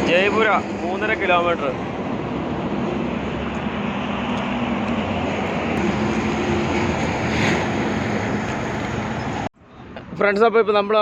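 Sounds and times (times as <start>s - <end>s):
heavy truck engines humming: 0.0s - 10.0s
tyre and road noise: 0.0s - 10.5s.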